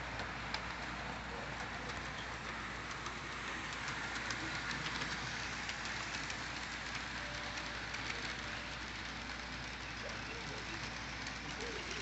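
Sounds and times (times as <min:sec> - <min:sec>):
model train running: 0:00.0 - 0:12.0
wheels clicking on track: 0:00.0 - 0:12.0.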